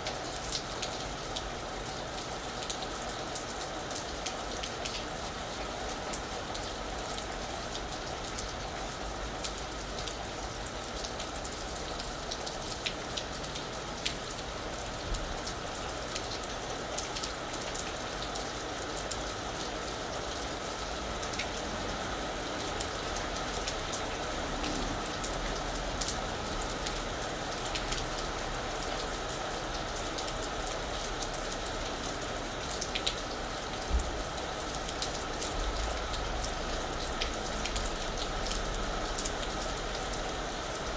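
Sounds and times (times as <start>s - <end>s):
rain pattering on a roof: 0.0s - 40.9s.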